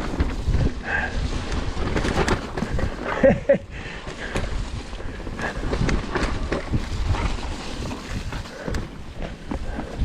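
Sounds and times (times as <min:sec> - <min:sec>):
bike tyres rumbling: 0:00.0 - 0:10.0
wind on microphone: 0:00.0 - 0:10.0.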